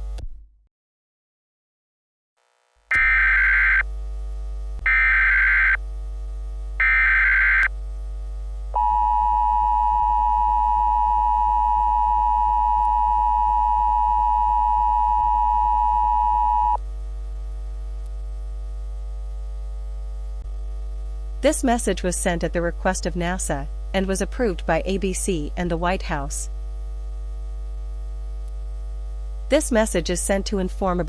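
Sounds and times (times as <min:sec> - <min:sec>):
low electrical hum: 0:03.0 - 0:31.0.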